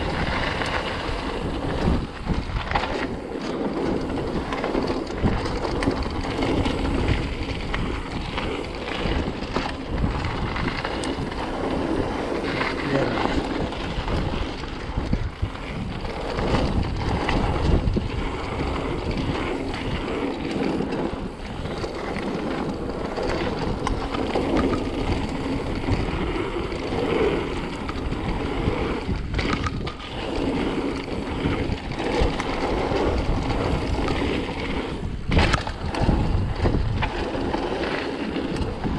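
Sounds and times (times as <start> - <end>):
bike rattling and knocking: 0.0 - 38.9
tyres rolling and skidding on dirt: 0.0 - 38.9
wind buffeting microphone: 0.0 - 38.9.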